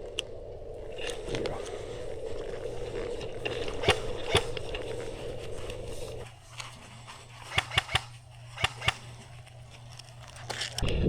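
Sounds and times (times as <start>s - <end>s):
airsoft guns firing: 0.0s - 10.8s
steady hum: 0.0s - 11.0s.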